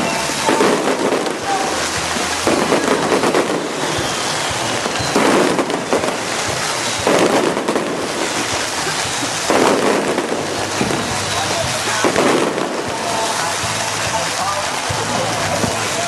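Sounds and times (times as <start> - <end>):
firecrackers crackling and whooshing: 0.0 - 16.0.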